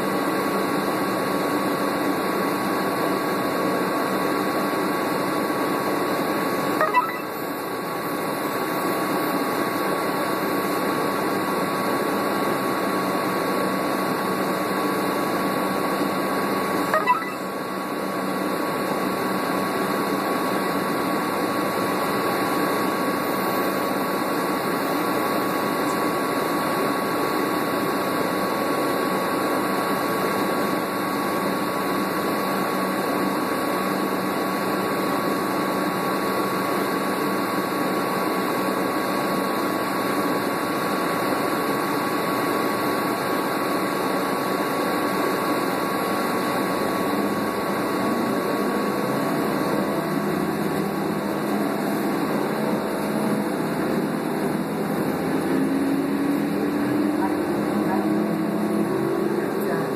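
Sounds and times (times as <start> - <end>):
bus engine humming: 0.1 - 59.9.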